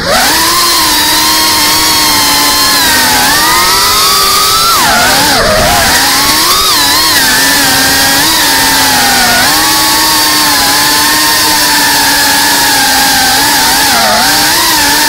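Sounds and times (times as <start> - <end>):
quadcopter motors buzzing: 0.0 - 15.0.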